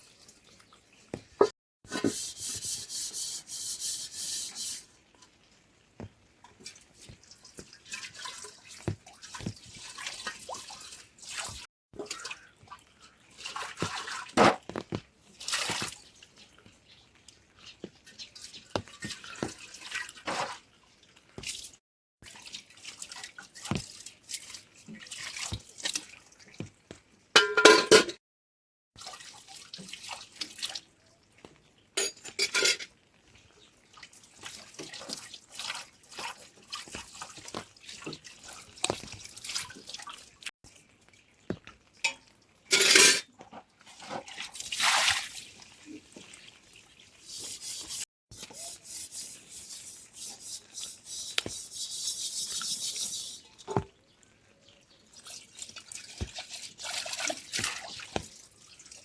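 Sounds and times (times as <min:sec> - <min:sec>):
water splashing and dripping: 0:00.0 - 0:27.3, 0:29.0 - 0:59.0
running water: 0:00.0 - 0:28.0, 0:29.0 - 0:59.0.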